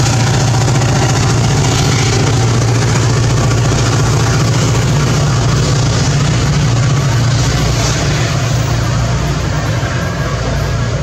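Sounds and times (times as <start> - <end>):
diesel locomotive engine drone: 0.0 - 11.0
train rumbling on rails: 0.0 - 11.0.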